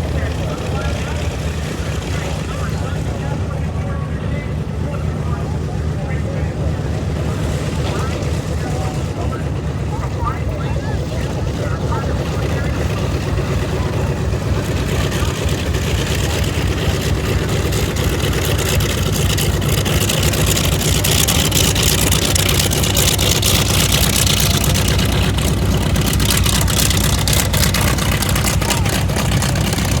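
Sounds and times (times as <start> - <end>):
aircraft radial engine rumbling: 0.0 - 30.0.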